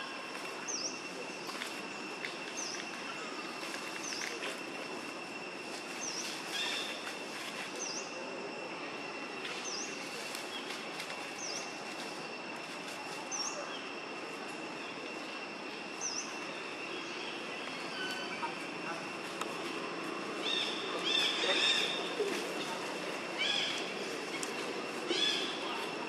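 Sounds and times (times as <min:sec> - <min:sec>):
high-pitched insect drone: 0:00.0 - 0:26.0
dry leaves rustling: 0:00.2 - 0:08.0, 0:09.5 - 0:26.0.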